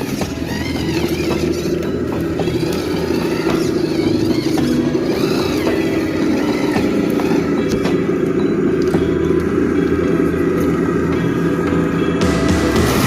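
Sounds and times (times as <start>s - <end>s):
toy truck motor whining: 0.0s - 12.2s.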